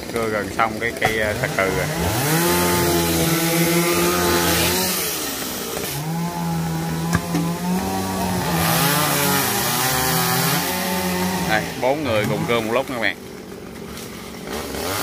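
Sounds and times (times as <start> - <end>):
chainsaw revving while cutting: 0.0 - 15.0
chainsaws running: 0.0 - 15.0.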